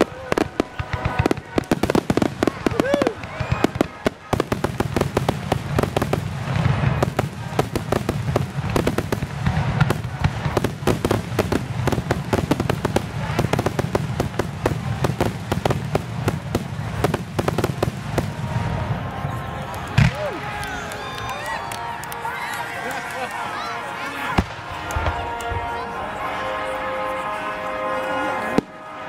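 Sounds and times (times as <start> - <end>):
fireworks bangs and crackles: 0.0 - 26.0, 28.4 - 29.0.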